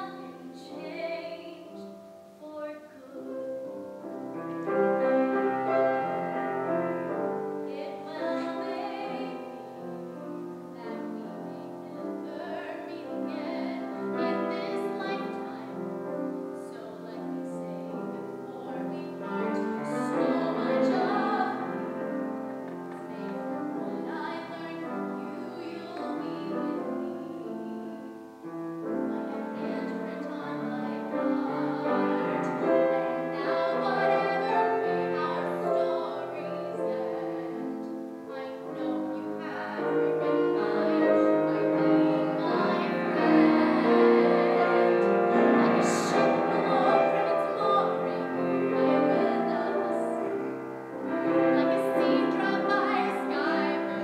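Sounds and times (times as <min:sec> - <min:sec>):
woman singing a ballad: 0:00.0 - 0:03.4, 0:07.6 - 0:09.7, 0:10.6 - 0:21.9, 0:22.9 - 0:28.4, 0:29.0 - 0:50.4, 0:51.5 - 0:54.0
grand piano: 0:00.0 - 0:54.0.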